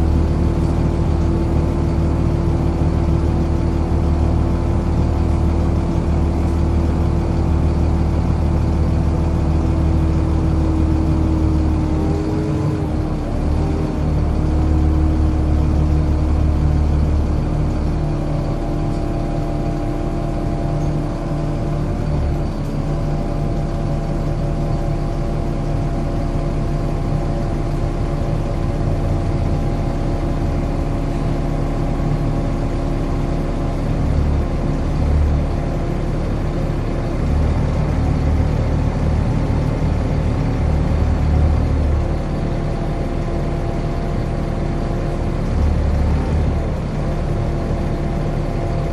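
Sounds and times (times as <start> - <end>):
bus diesel engine rumble: 0.0 - 48.9.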